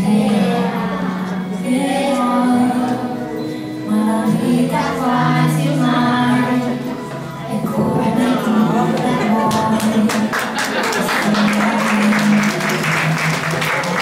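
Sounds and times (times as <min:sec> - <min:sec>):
children singing: 0:00.0 - 0:12.9
musical accompaniment: 0:00.0 - 0:14.0.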